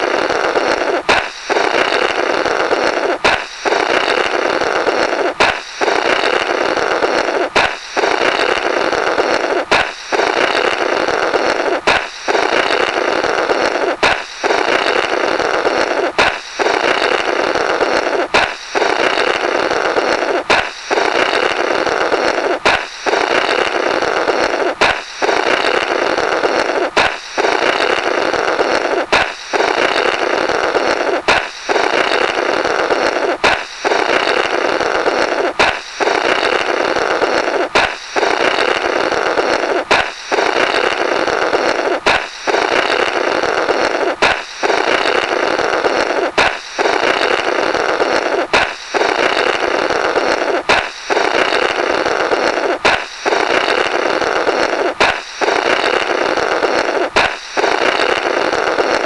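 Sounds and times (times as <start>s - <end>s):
balloon popping: 0.0s - 59.0s
raspy blowing through balloon: 0.0s - 59.0s.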